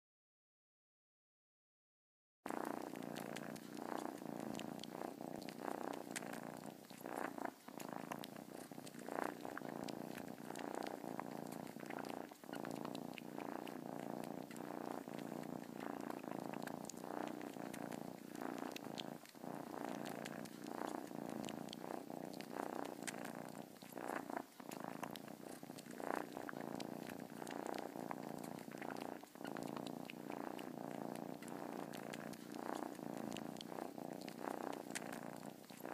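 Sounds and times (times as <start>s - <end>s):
cat purring: 2.5s - 35.9s.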